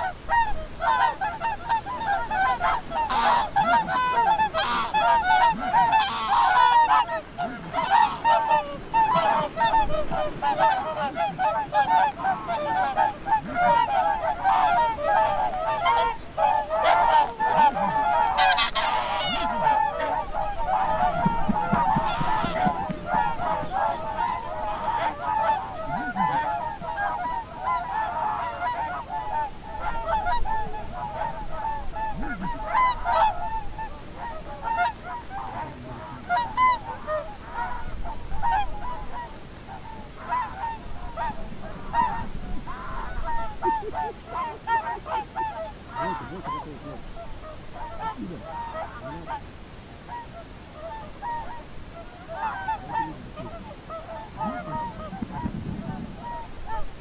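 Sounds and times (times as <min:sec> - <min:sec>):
geese honking: 0:00.0 - 0:57.0.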